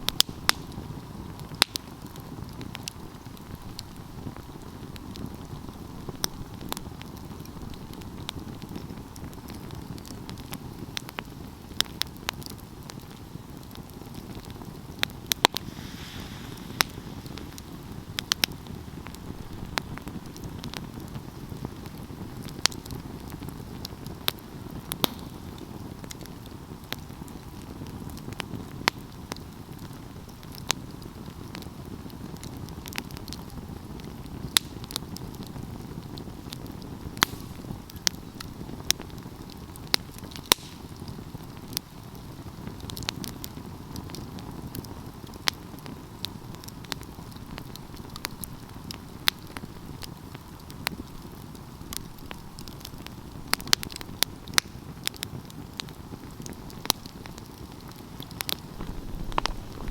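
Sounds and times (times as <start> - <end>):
logs crackling and popping: 0.0 - 59.9
low rush of flames: 0.0 - 59.9.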